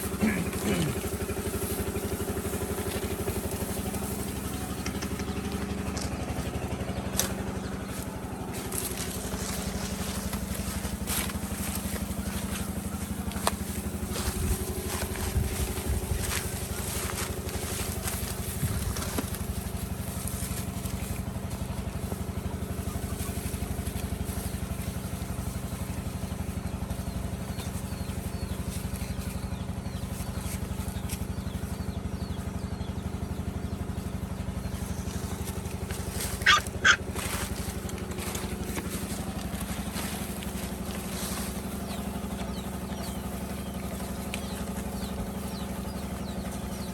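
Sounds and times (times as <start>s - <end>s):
small motorcycle engine running: 0.0s - 46.9s.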